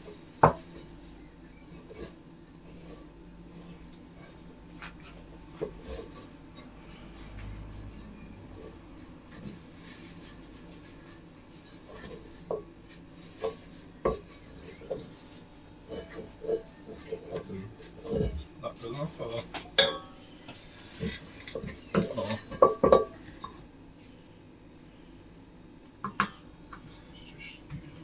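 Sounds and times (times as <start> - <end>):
dough stirred in mixing bowl: 0.0 - 19.8, 20.4 - 24.1, 26.1 - 28.0.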